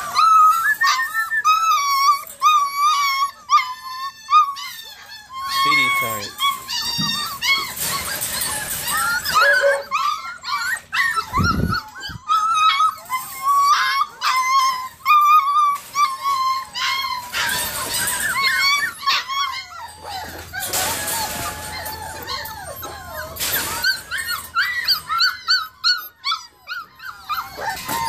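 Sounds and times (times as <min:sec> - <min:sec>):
puppies whining and yipping: 0:00.0 - 0:28.0.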